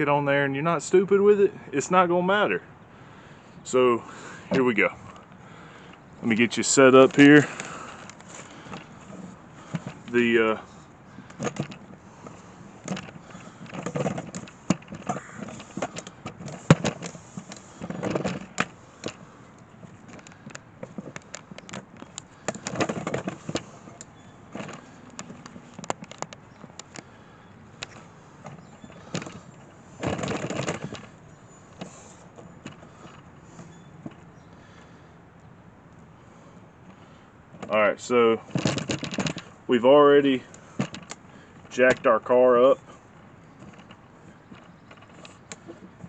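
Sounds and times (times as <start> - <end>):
scraping and rustling: 4.5 - 35.0, 36.2 - 46.0
handling clicks and knocks: 4.5 - 36.0, 36.8 - 46.0.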